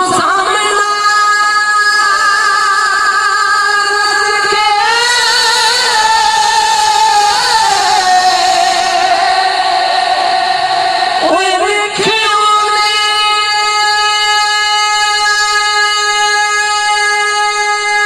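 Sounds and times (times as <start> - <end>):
man singing held notes with vibrato: 0.0 - 18.0.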